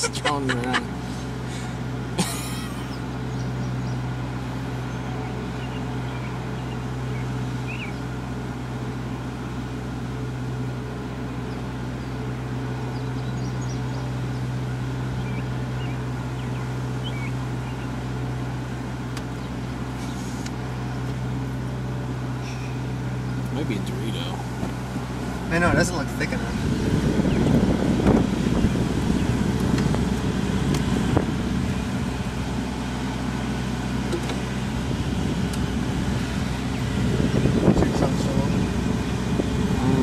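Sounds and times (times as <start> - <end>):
vehicle idling hum: 0.0 - 40.0.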